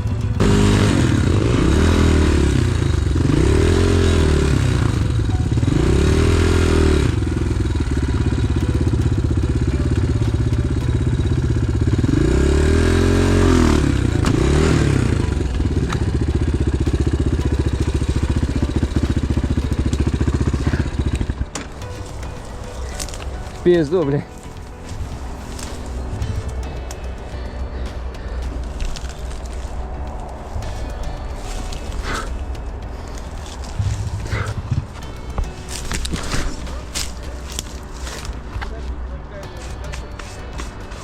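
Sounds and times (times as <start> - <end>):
dirt bike engine revving: 0.0 - 38.6.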